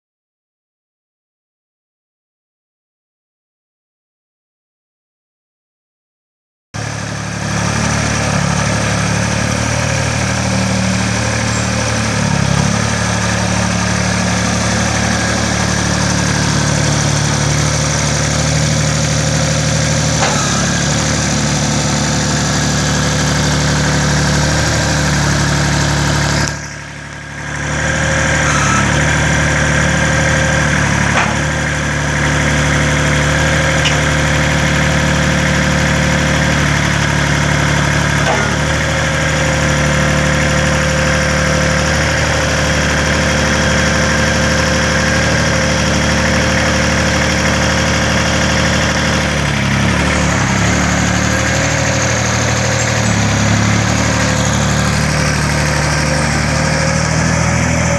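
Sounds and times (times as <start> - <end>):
tractor diesel engine running: 6.8 - 57.9.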